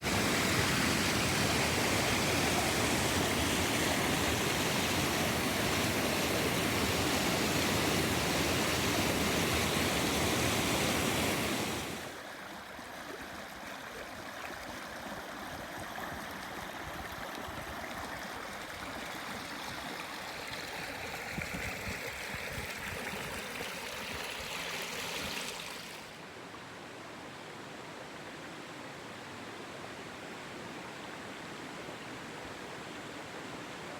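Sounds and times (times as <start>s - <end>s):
river water flowing: 0.0s - 33.9s.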